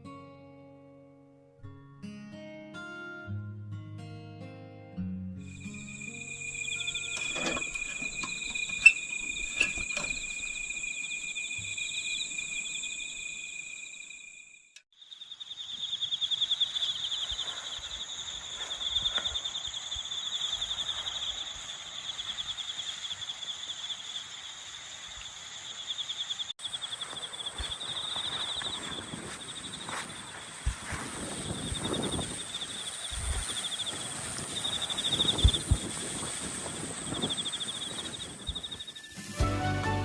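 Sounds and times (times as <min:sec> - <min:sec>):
insects trilling: 0:05.4 - 0:39.2.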